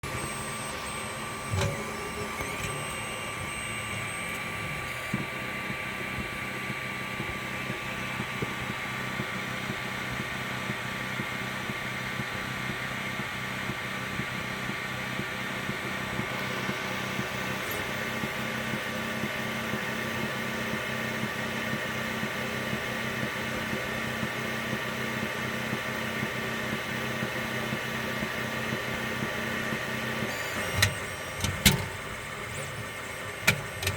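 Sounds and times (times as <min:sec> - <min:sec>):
cooling fan humming: 0:00.0 - 0:33.9
stepper motors buzzing and whining: 0:00.0 - 0:33.9
strange printer noise: 0:00.0 - 0:33.9.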